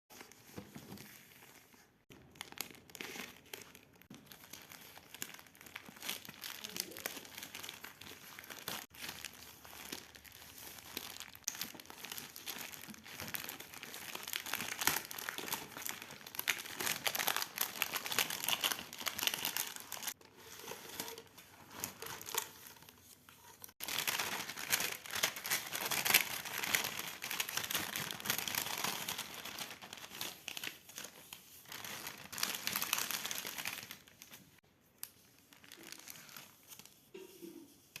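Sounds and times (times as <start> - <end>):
packaging crinkling and tearing: 2.1 - 37.0.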